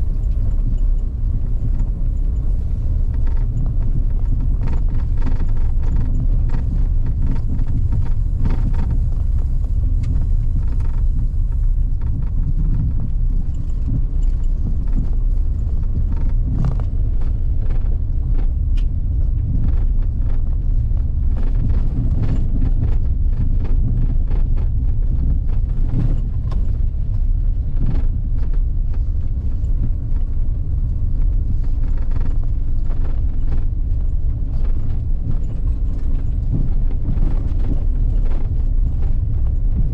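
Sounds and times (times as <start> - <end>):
knocks and clicks from road: 0.0 - 39.9
vehicle rumbling on rough road: 0.0 - 39.9.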